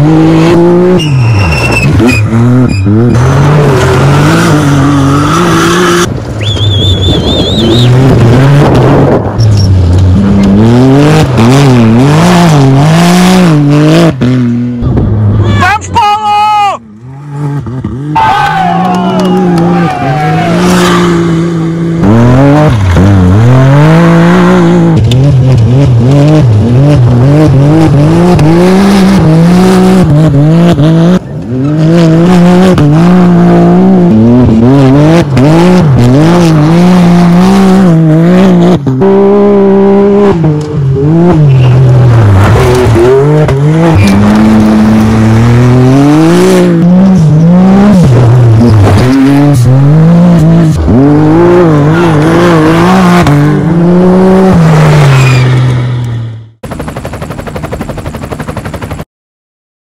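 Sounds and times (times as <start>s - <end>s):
race buggy engines revving: 0.0s - 57.2s.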